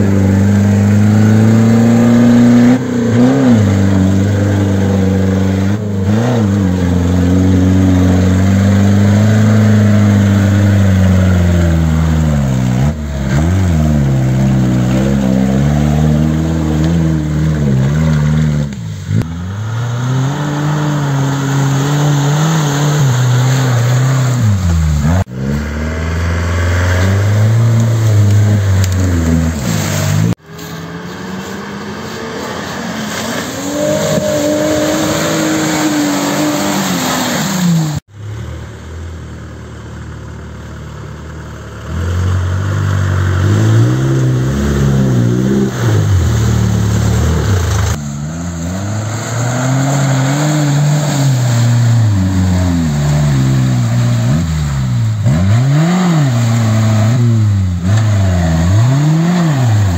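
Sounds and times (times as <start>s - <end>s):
off-road engines revving: 0.0s - 59.9s.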